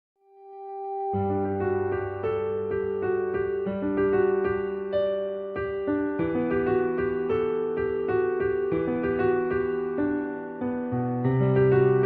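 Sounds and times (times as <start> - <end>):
soft electric piano: 0.5 - 12.0.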